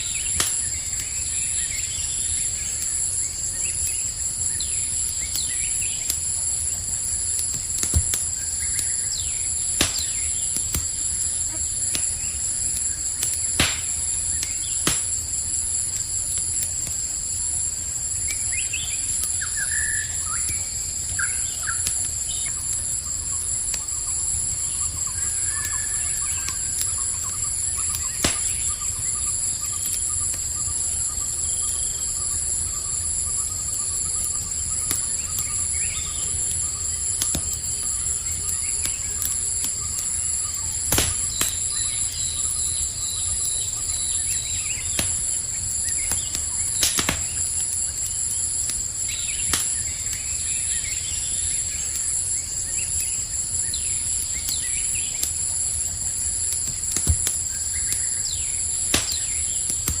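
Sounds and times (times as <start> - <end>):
campfire crackling and popping: 0.0 - 60.0
crickets trilling: 0.0 - 60.0
faint chirps: 0.0 - 60.0.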